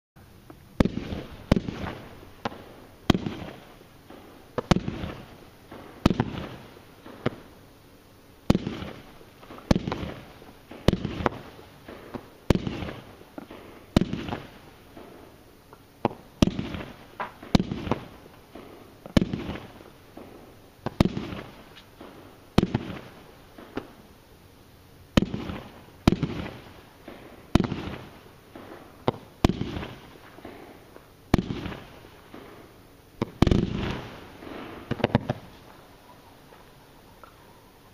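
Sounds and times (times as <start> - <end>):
firework bangs with crackle: 0.7 - 7.6, 8.4 - 24.2, 25.1 - 35.8.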